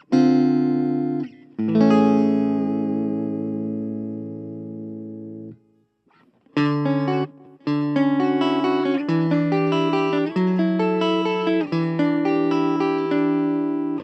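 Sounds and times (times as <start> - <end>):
clean electric guitar chords: 0.0 - 5.7, 6.4 - 14.0.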